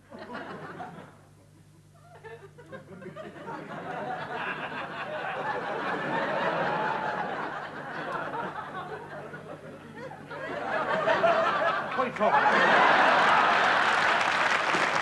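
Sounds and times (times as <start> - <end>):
studio audience laughing: 0.1 - 1.2, 2.1 - 15.0.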